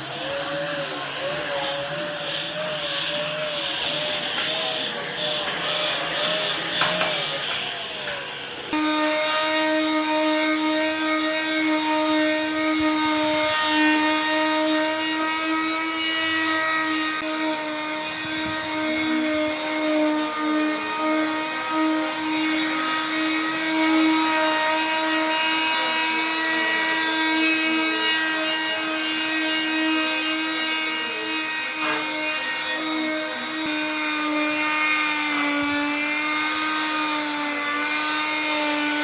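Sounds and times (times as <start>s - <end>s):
electric power tool whining: 0.0s - 39.0s.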